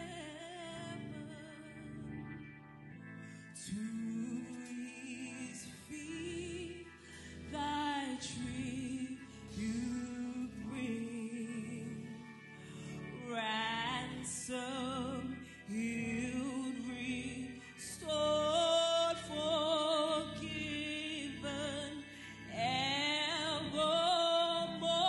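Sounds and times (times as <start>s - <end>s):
woman singing worship song: 0.0s - 2.6s, 3.2s - 25.0s
sustained backing chords: 0.0s - 25.0s.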